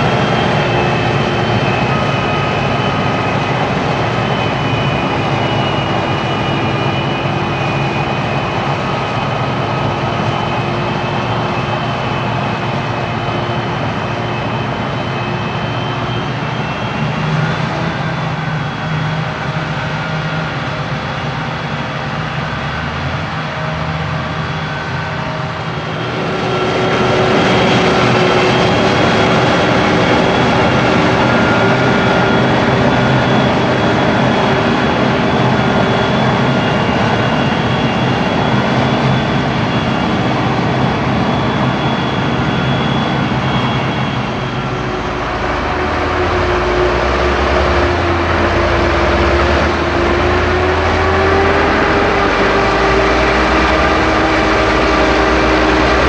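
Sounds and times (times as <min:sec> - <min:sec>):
harvester whine: 0:00.0 - 0:56.0
heavy engine drone: 0:00.0 - 0:56.0.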